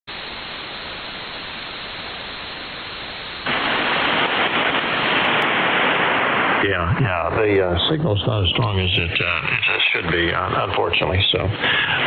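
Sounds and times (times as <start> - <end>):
radio receiver hiss: 0.1 - 12.0.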